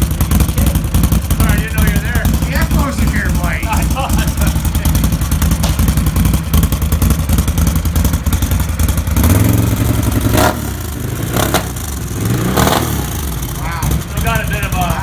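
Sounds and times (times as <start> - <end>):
atv engine idling and revving: 0.0 - 15.0.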